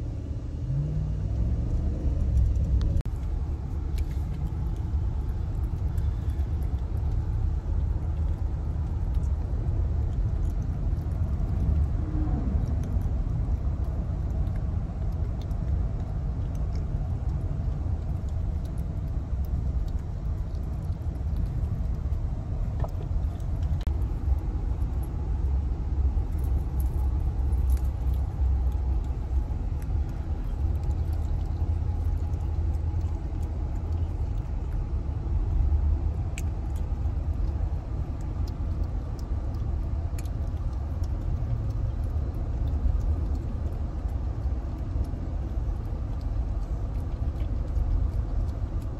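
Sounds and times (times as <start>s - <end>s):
car road and cabin noise: 0.0s - 48.9s.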